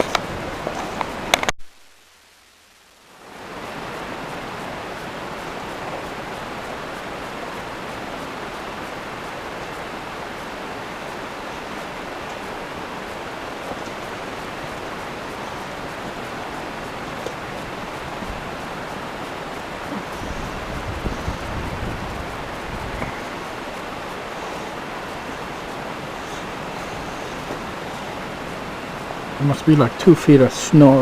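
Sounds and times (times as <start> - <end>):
storm wind rushing: 0.0 - 1.4, 3.4 - 30.0.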